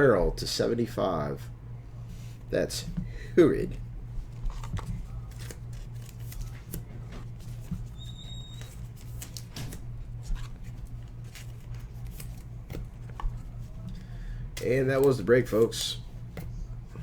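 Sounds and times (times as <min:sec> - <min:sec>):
steady low hum: 0:00.0 - 0:17.0
trading cards and sleeves rustling: 0:02.1 - 0:17.0.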